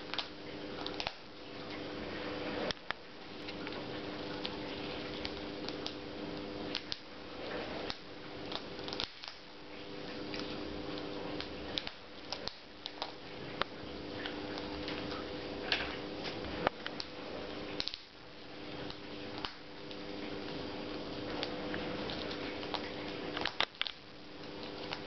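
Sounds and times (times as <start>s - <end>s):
parrot crunching food: 0.0s - 25.0s
steady low hum: 0.0s - 25.0s.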